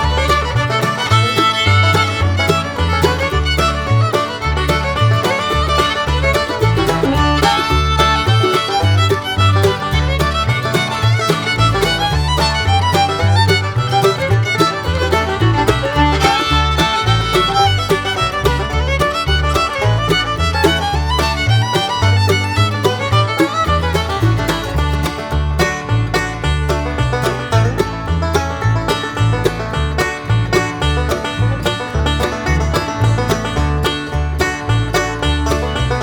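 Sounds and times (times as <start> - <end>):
fiddle playing melody: 0.0 - 36.0
walking bass beat: 0.0 - 36.0.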